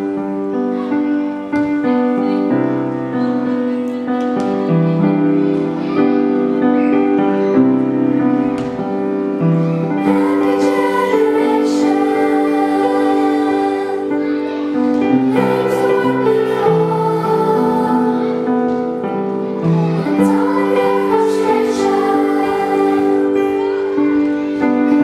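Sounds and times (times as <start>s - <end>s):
children's choir singing: 0.0s - 25.0s
piano chords: 0.0s - 25.0s.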